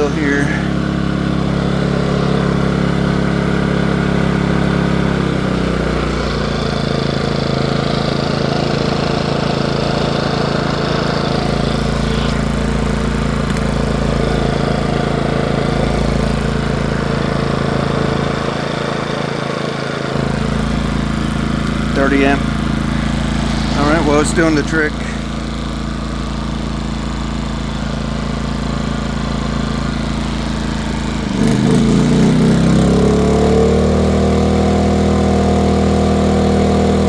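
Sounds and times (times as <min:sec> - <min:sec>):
generator engine running: 0:00.0 - 0:37.0.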